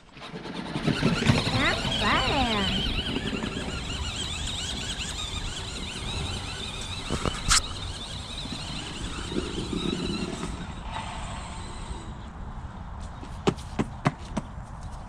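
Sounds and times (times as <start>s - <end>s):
toy truck motor whining: 0.0s - 12.6s
rumble of tyres and wind: 0.0s - 15.0s.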